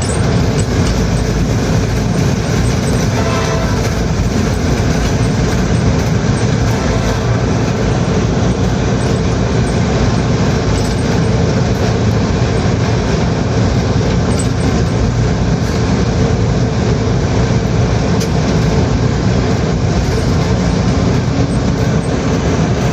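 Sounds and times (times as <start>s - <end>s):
train rumbling on rails: 0.0s - 22.9s.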